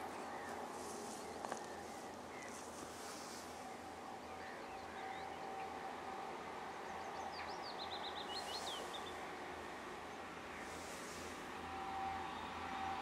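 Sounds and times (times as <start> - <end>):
songbird singing: 0.0 - 11.0
faint outdoor rumble: 0.0 - 13.0.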